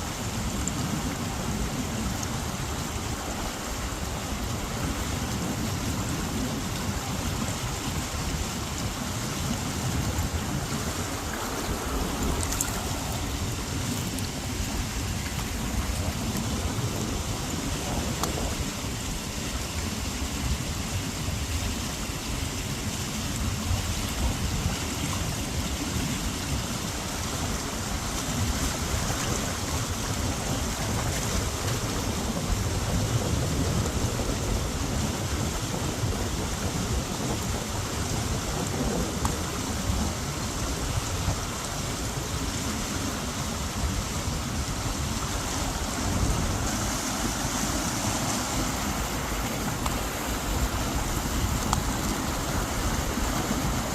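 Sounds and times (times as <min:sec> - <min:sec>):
mountain stream rushing: 0:00.0 - 0:53.9.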